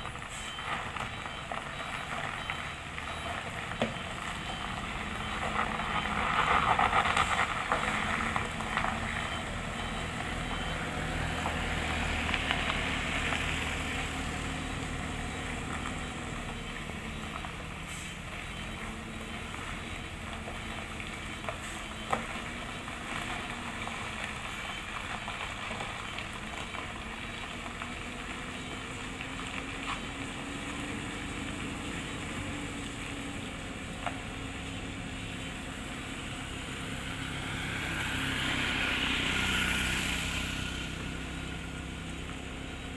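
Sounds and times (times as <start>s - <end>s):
truck diesel engine under load: 0.0s - 42.9s.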